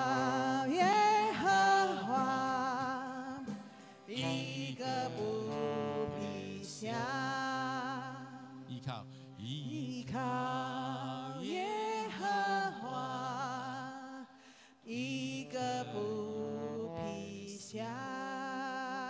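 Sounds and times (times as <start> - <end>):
person singing slowly: 0.0 - 19.0.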